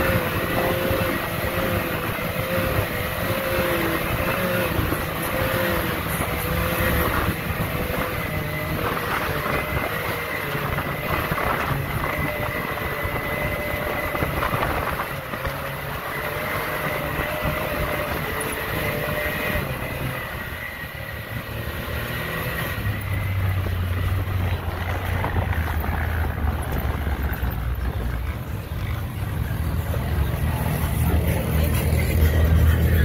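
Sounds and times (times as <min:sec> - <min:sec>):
deep engine hum: 0:00.0 - 0:33.0
off-road vehicle engines running: 0:00.0 - 0:33.0
steady rush of noise: 0:00.0 - 0:33.0.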